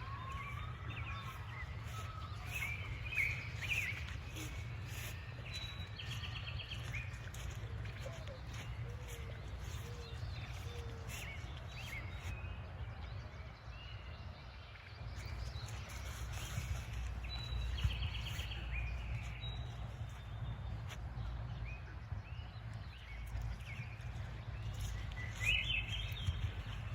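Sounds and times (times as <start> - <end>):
small birds chirping: 0.0 - 12.8, 13.6 - 26.9
low rumble of wind: 0.0 - 26.9.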